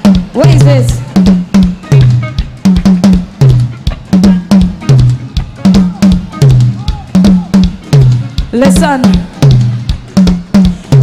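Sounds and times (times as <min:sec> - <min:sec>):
repeating bass line: 0:00.0 - 0:10.4
hard-hitting drum beat: 0:00.0 - 0:11.0.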